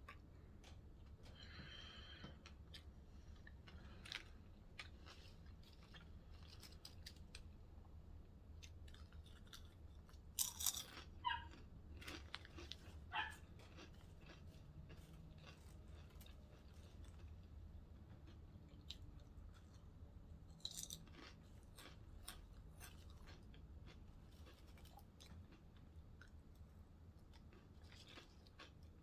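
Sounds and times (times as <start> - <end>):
person chewing a sandwich: 0.0 - 29.0.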